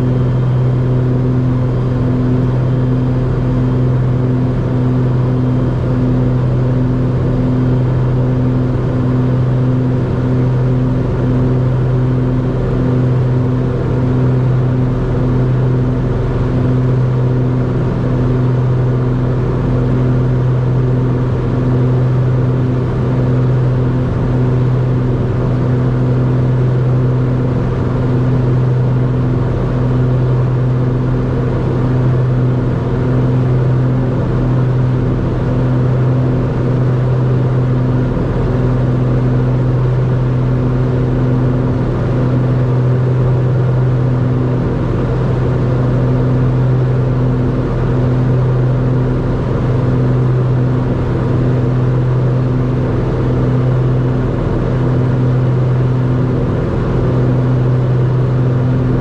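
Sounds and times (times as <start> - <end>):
propeller aircraft engines droning: 0.0 - 59.0.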